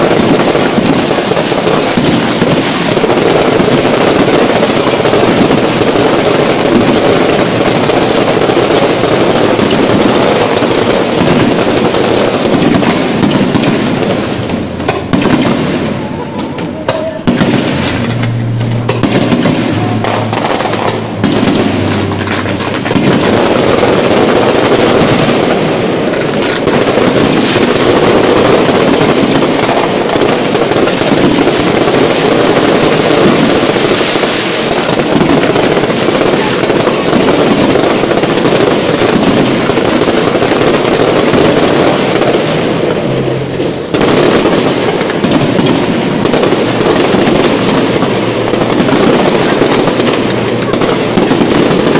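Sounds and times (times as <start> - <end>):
fireworks shell bursts crackling: 0.0 - 51.9.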